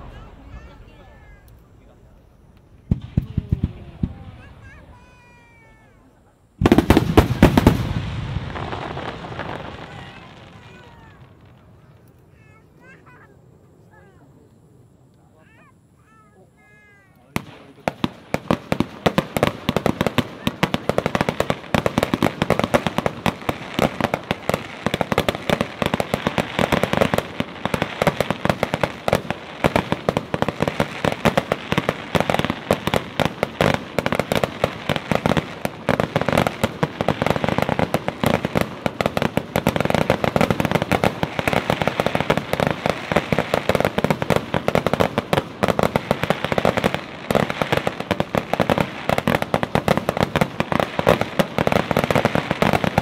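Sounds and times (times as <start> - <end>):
fireworks bangs and crackles: 0.0 - 14.5, 15.2 - 53.0.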